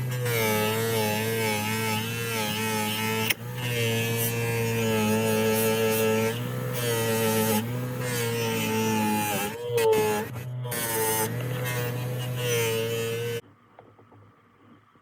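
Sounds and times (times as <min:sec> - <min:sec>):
small electric motor buzzing: 0:00.0 - 0:13.4.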